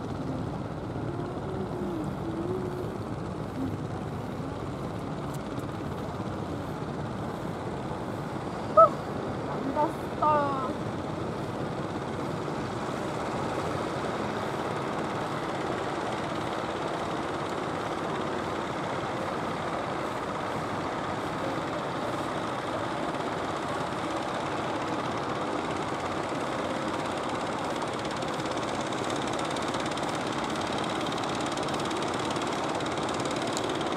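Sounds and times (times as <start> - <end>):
boat engine droning: 0.0 - 33.9.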